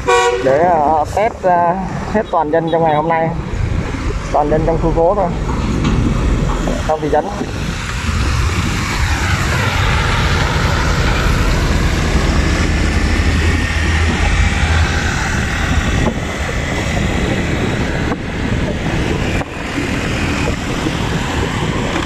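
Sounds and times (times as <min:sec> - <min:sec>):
dump truck engine drone: 0:00.0 - 0:22.0
wind noise: 0:00.0 - 0:22.0.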